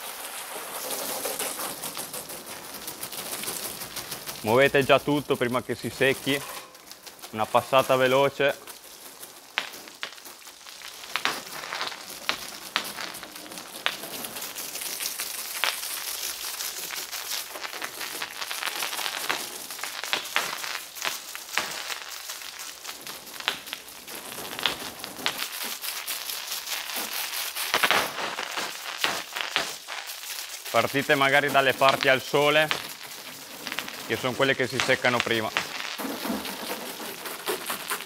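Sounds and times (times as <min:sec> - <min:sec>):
hose water jet spraying: 0:00.0 - 0:38.0
water splashing on concrete: 0:00.0 - 0:38.0.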